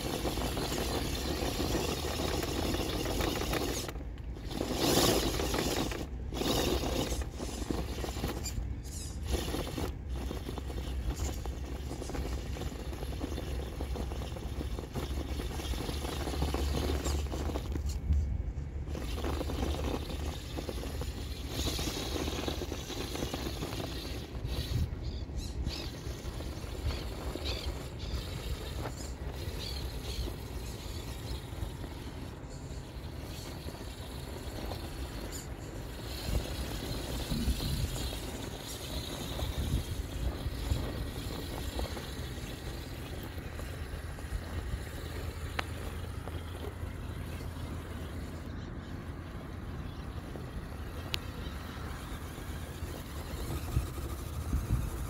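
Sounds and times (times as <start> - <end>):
toy car motor whining: 0.0 - 55.0
tyres scrabbling in dirt: 0.0 - 55.0.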